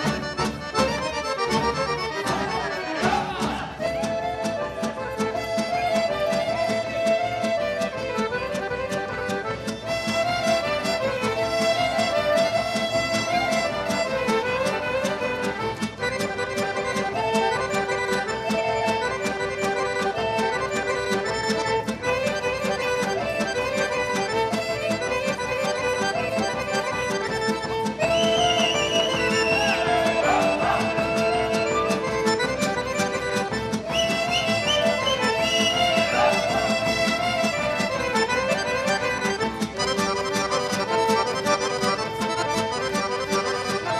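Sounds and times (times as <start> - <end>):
accordion melody: 0.0 - 43.9
folk orchestra playing: 0.0 - 43.9.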